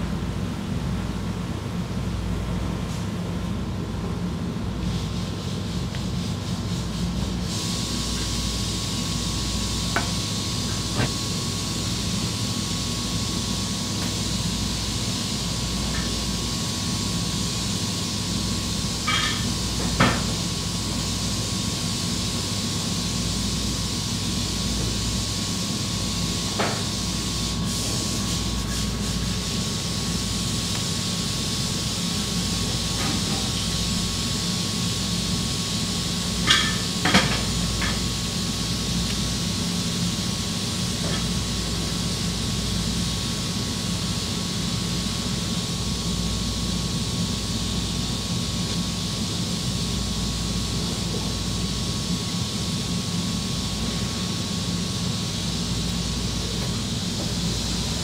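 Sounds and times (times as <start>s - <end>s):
kitchen hiss and rumble: 0.0s - 58.0s.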